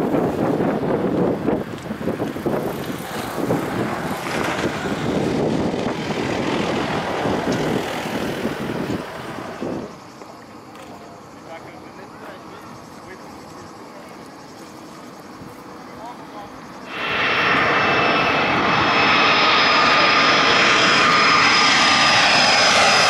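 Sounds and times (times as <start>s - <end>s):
jet engines roaring at takeoff: 0.0s - 23.0s.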